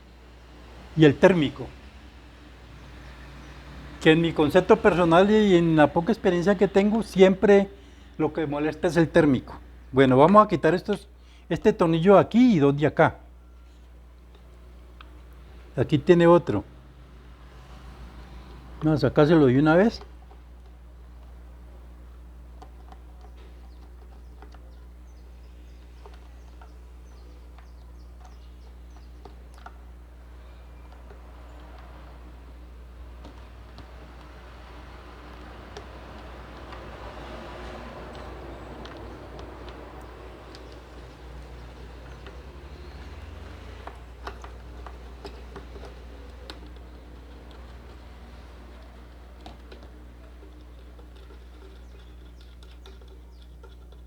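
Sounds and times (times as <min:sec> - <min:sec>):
birds chirping: 0:00.0 - 0:54.0
low electrical hum: 0:00.0 - 0:54.0.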